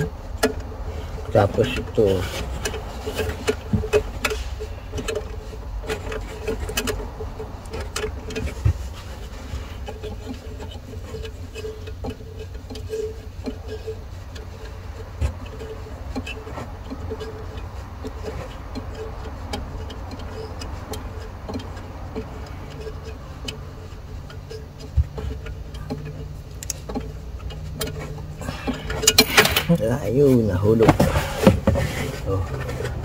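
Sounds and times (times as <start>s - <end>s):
quiet ticking: 0.0s - 31.1s
hand tools tapping on metal: 0.0s - 33.0s
low steady rumble: 0.0s - 33.0s.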